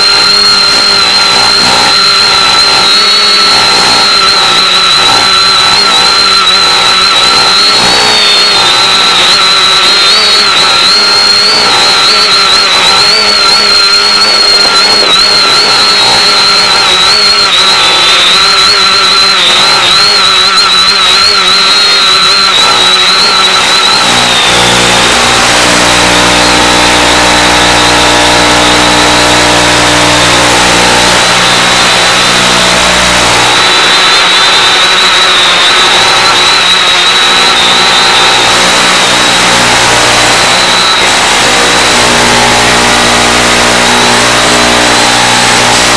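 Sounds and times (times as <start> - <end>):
buzzing hum: 0.0 - 45.9
quadcopter motors whining: 0.0 - 45.9.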